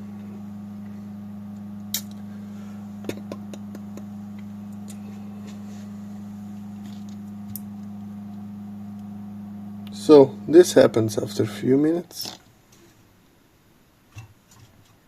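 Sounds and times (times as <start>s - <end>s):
computer cooling fan hum: 0.0s - 12.2s.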